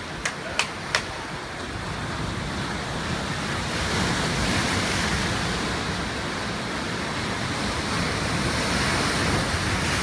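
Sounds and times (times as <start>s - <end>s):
ocean surf breaking on rocks: 0.0s - 10.0s
wind: 0.0s - 10.0s.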